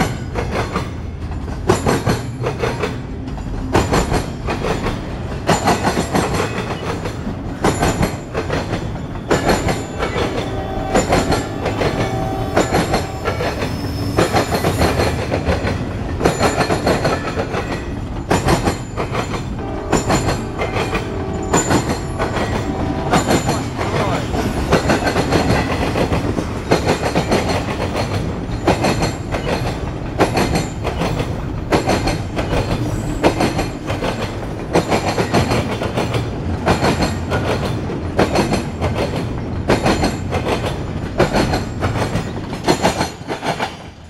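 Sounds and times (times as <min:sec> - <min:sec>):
train wheels rumbling on rail: 0:00.0 - 0:44.0
wheels clicking over rail joints: 0:00.0 - 0:44.0.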